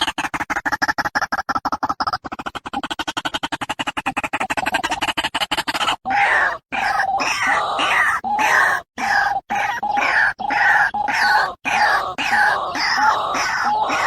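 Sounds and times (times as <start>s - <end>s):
bird harsh calls: 0.0s - 14.0s.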